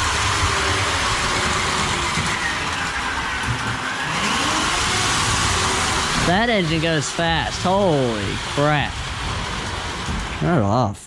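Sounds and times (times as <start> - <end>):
model train motor and wheels: 0.0 - 10.9.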